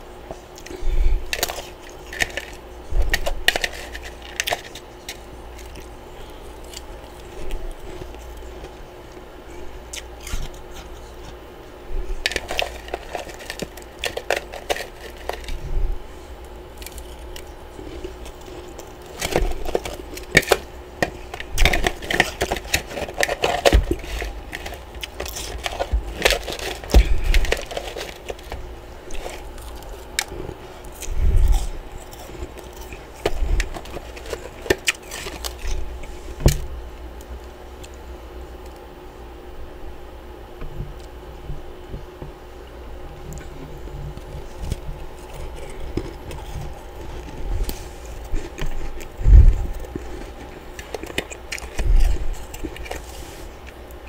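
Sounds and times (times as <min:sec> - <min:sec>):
frost crunching: 0:00.4 - 0:38.0, 0:43.0 - 0:54.0.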